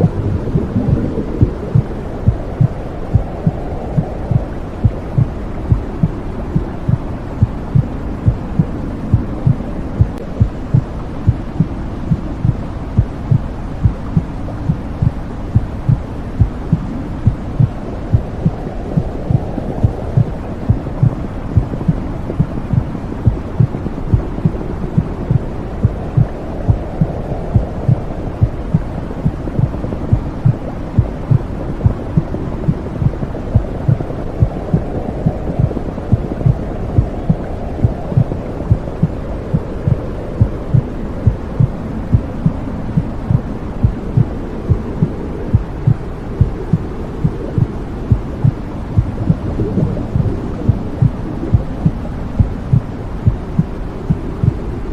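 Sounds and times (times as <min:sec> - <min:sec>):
heartbeat thumping: 0:00.0 - 0:54.6
low whooshing rumble: 0:00.0 - 0:54.9.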